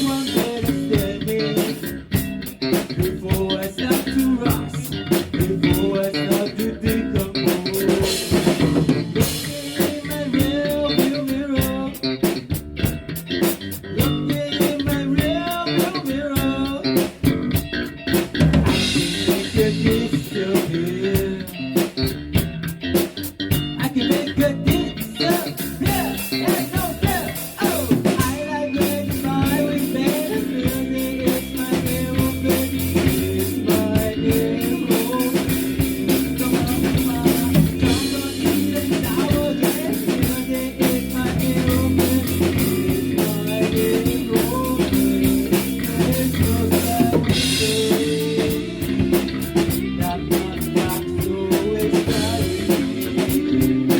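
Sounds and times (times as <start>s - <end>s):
band playing instrumental: 0.0s - 53.9s
drum kit steady beat: 0.0s - 53.9s
guitar lines: 0.0s - 53.9s.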